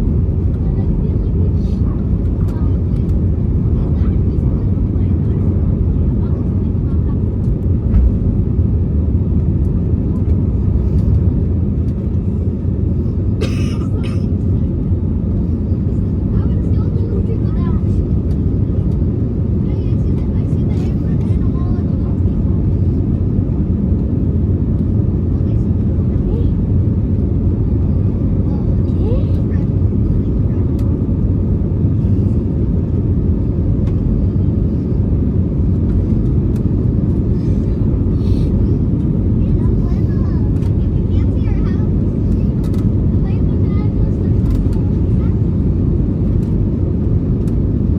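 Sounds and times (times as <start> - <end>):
jet engines rumbling: 0.0 - 47.9.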